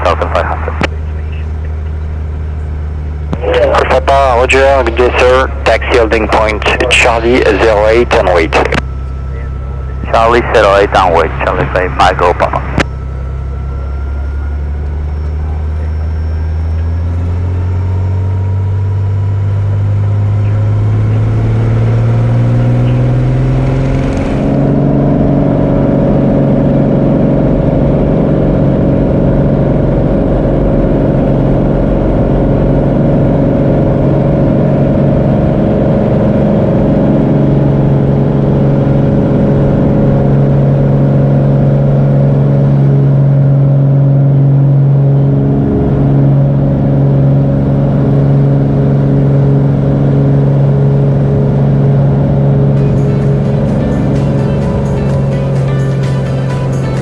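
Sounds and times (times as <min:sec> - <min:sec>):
aircraft piston engine and propeller: 0:00.0 - 0:57.0.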